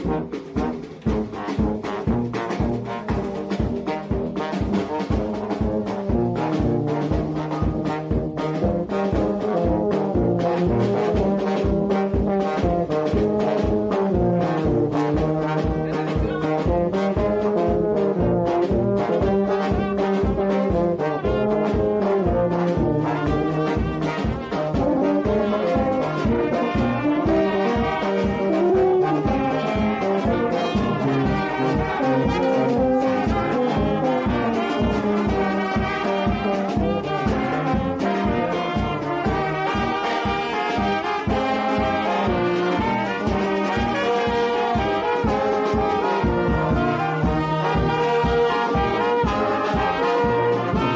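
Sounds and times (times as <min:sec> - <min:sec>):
brass band playing: 0:00.0 - 0:50.9.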